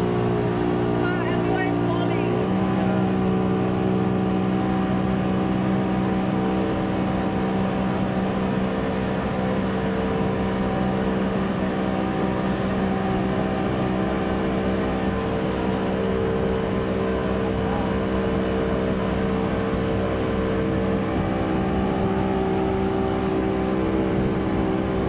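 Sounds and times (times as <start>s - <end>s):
outboard motor droning: 0.0s - 25.0s
rushing water and wind: 0.0s - 25.0s.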